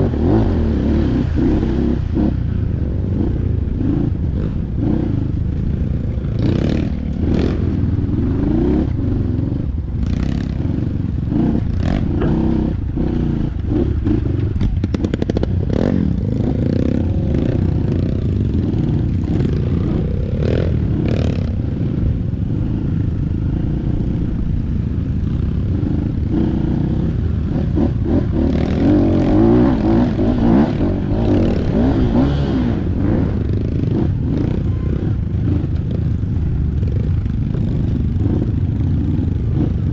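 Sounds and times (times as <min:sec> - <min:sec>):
motorcycle engine revving: 0:00.0 - 0:39.9
motorcycle rattling and knocking: 0:01.4 - 0:39.9.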